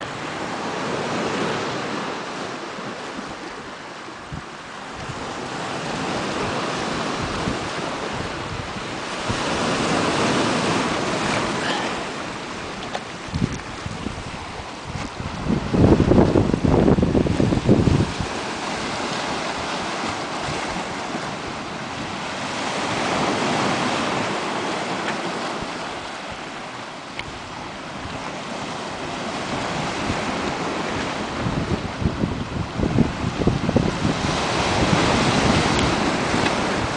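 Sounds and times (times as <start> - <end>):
sea waves on a stony shore: 0.0 - 36.9
wind buffeting microphone: 0.0 - 36.9.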